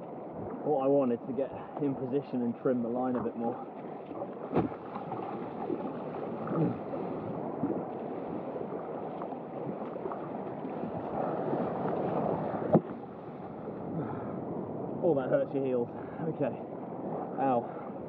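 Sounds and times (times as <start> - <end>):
water rushing and splashing: 0.0 - 18.0.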